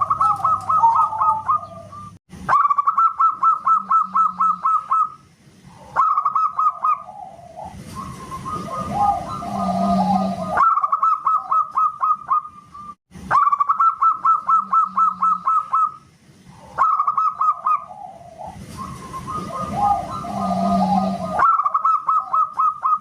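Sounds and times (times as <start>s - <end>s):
dove rapid cooing: 0.0s - 12.6s, 13.3s - 23.0s
dove low warbling coos: 0.0s - 23.0s.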